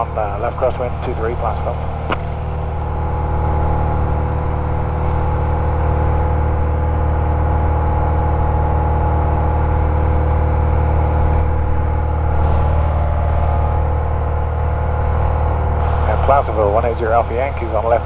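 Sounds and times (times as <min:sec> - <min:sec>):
airplane engine and propeller: 0:00.0 - 0:18.0.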